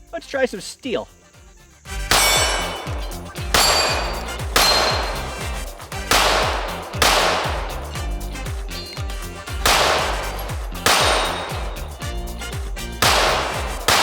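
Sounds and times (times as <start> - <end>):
pistol shots at steel targets: 2.0 - 14.0.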